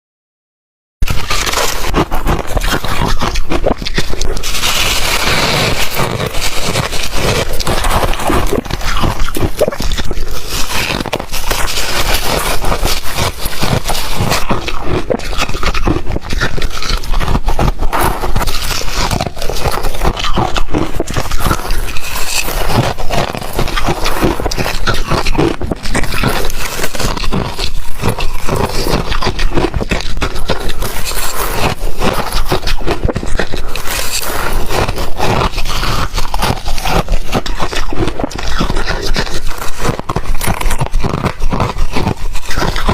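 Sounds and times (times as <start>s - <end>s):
person chewing ice: 1.0s - 42.9s.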